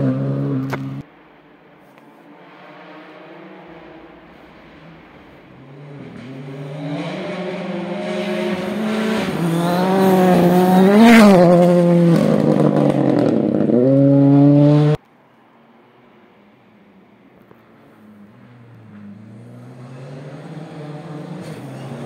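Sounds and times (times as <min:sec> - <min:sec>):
rally car engine at full throttle: 0:00.0 - 0:01.1, 0:01.9 - 0:15.0, 0:18.0 - 0:22.0.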